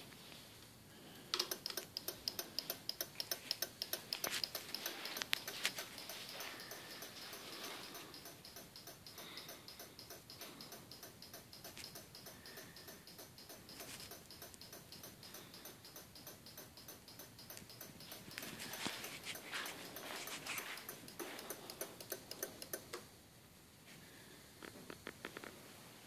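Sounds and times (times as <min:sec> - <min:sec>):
faint rapid ticking: 0:01.3 - 0:23.0.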